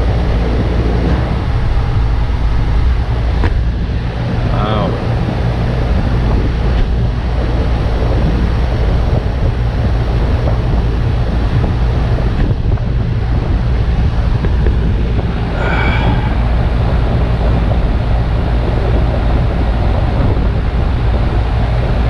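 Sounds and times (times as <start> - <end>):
air conditioner fan rushing: 0.0 - 22.0
low electrical hum: 0.0 - 22.0.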